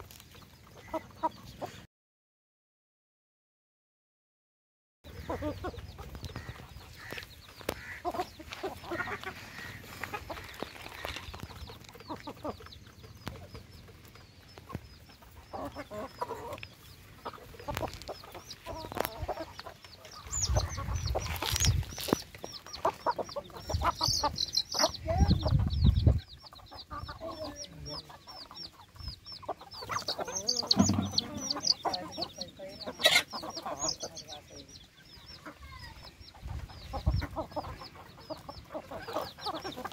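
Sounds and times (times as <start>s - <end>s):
chickens pecking at grain: 0.0s - 1.8s, 5.1s - 24.9s, 26.4s - 34.6s, 35.4s - 39.9s
chicks peeping: 0.0s - 1.9s, 5.0s - 39.9s
hens and roosters clucking: 0.0s - 1.9s, 5.1s - 39.9s.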